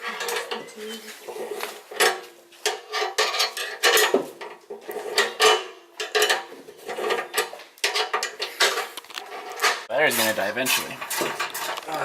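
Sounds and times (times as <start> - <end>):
metal parts clanking: 0.0 - 9.9.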